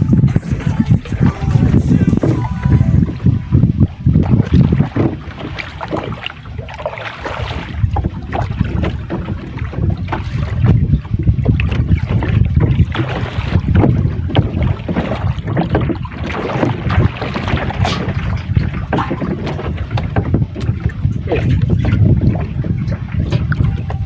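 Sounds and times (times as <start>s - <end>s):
wind buffeting microphone: 3.0s - 24.0s
water slapping against hull: 4.2s - 24.0s.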